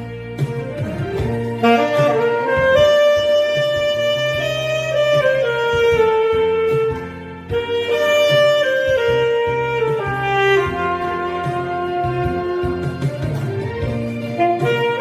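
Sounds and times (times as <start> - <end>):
bass line accompaniment: 0.0 - 15.0
saxophone melody: 0.0 - 15.0.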